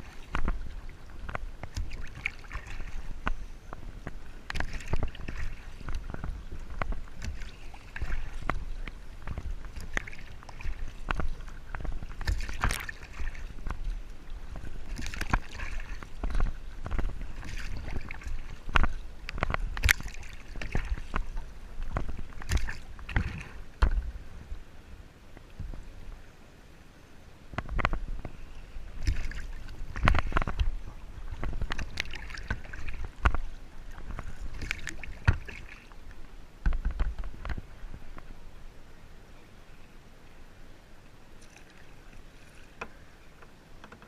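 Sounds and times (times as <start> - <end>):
paddle splashes: 0.0 - 26.4, 27.4 - 38.7, 39.7 - 44.0
water sloshing against hull: 0.0 - 44.0.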